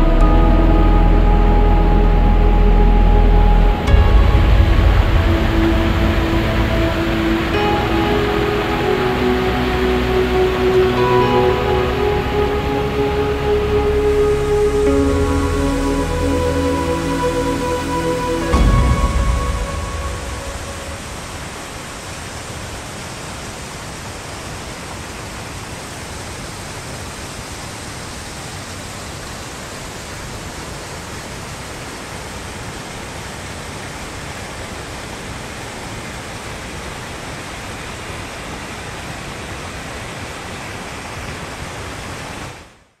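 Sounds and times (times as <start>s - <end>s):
waterfall and stream rushing: 0.0s - 43.0s.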